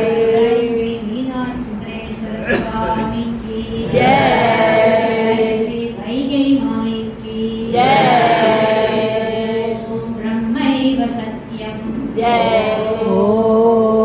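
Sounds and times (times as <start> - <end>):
steady drone: 0.0 - 14.0
voices singing a hymn: 0.0 - 14.0.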